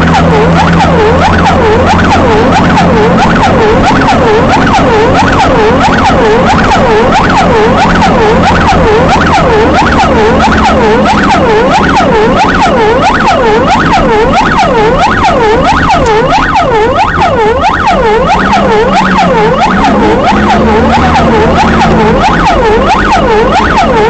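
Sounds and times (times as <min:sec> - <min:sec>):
siren yelping: 0:00.0 - 0:24.0.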